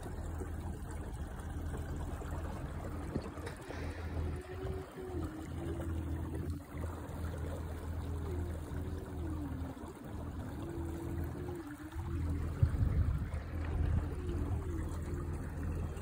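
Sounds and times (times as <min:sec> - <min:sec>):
water washing along boat: 0:00.0 - 0:16.0.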